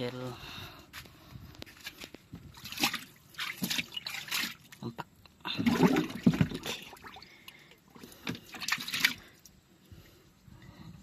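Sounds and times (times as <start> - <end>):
water sloshing and splashing: 1.0 - 10.7.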